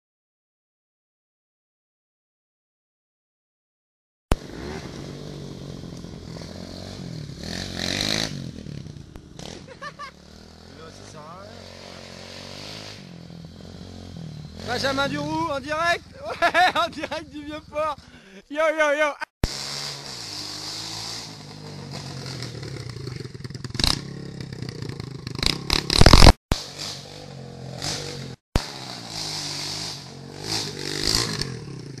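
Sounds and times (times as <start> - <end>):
motorbike engine revving: 4.3 - 18.2, 19.4 - 32.0.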